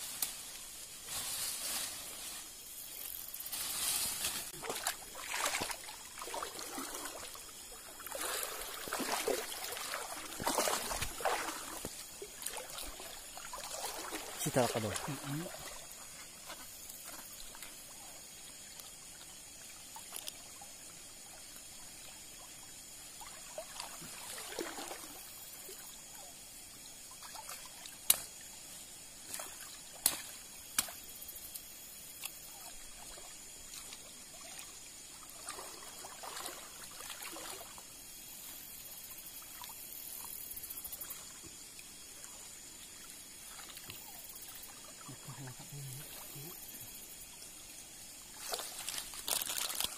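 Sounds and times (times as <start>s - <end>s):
water trickling and sloshing: 0.1s - 49.9s.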